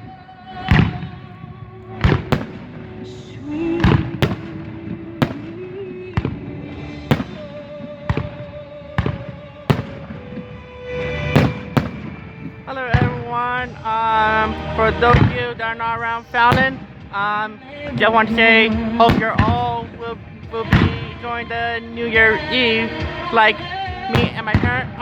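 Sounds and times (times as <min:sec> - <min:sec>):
fireworks bangs: 0:02.0 - 0:13.8, 0:14.8 - 0:25.0.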